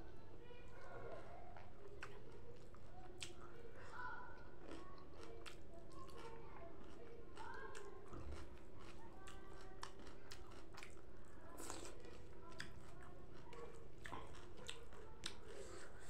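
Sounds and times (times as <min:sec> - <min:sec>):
chewing with wet mouth smacks: 0:01.5 - 0:16.0.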